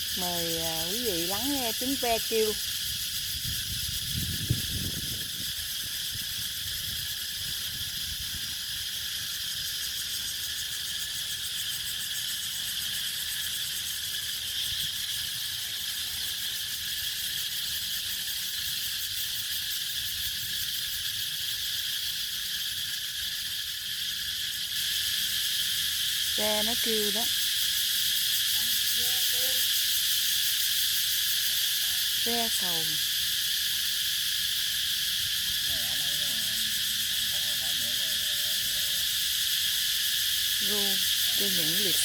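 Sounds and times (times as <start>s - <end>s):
cicadas droning: 0.0s - 42.0s.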